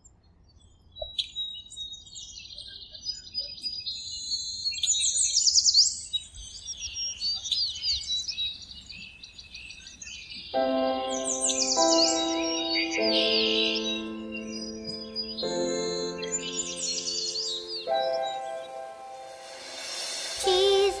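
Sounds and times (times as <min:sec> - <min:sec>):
songbirds chirping and singing: 0:01.0 - 0:21.0.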